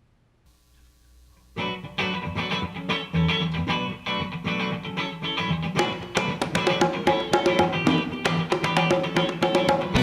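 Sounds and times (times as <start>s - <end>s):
latin fusion band playing: 1.6s - 10.0s
strummed guitar chords: 1.6s - 10.0s.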